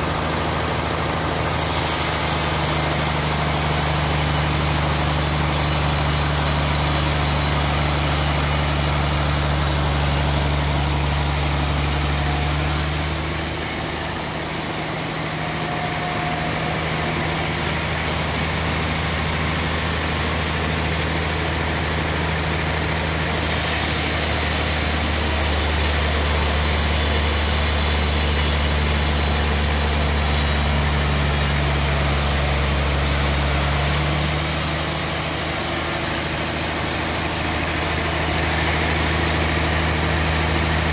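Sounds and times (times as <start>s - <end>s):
band sawmill motor drone: 0.0s - 40.9s.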